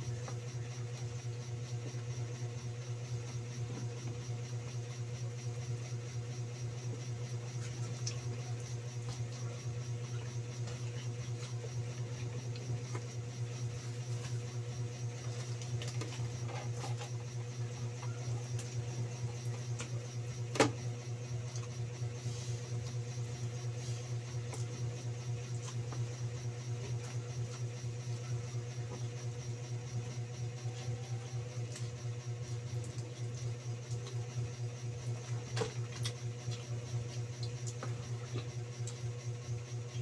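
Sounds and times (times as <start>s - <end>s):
low machine hum: 0.0s - 40.0s.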